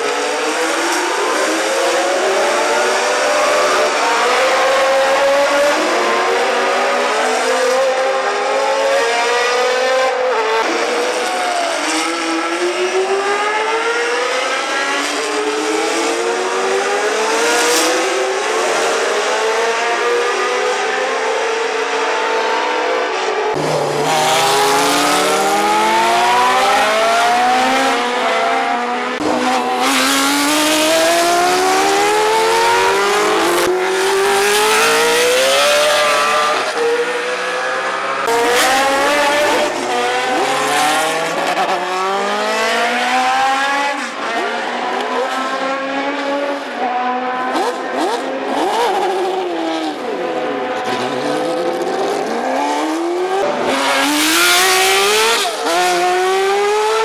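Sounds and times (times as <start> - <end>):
racing car engines at full throttle: 0.0 - 57.0.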